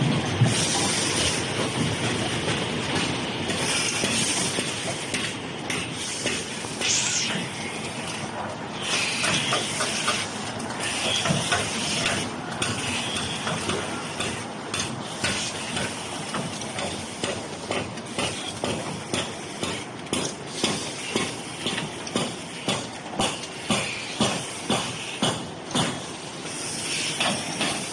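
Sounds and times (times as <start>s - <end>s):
machine knocking: 0.0s - 26.1s, 27.1s - 27.9s
packing machine clattering and hissing: 0.0s - 27.9s.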